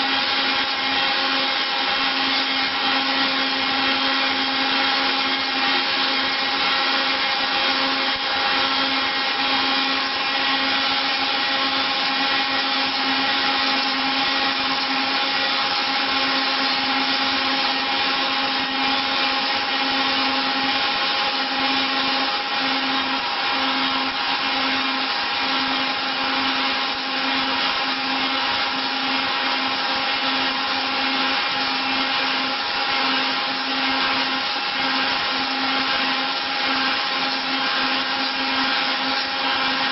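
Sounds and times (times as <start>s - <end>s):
machine hum: 0.0s - 39.9s
milling machine cutter whine: 0.0s - 39.9s.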